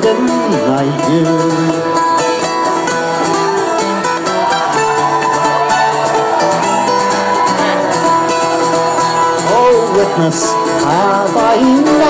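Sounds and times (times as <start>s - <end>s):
acoustic folk band instrumental: 0.0s - 12.0s
plucked strings: 0.0s - 12.0s.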